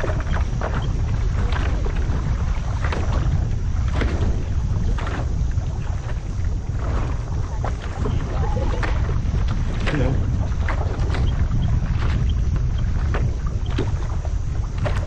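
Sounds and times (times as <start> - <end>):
water splashing: 0.0 - 15.0
wind buffeting microphone: 0.0 - 15.0.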